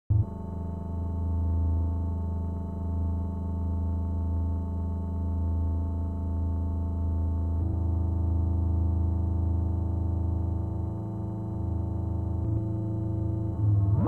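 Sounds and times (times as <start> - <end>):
fuzzy low electronic drone: 0.1 - 14.0.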